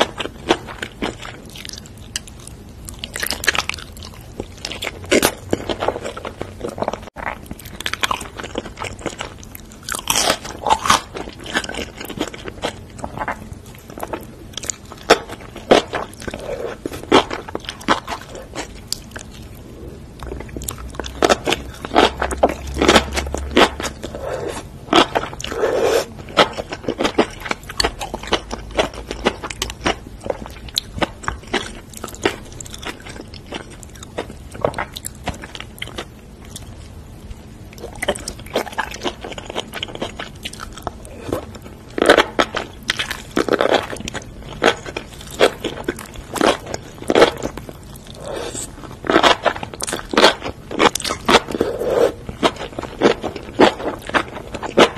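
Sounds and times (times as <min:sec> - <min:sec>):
chewing and crunching: 0:00.0 - 0:54.9.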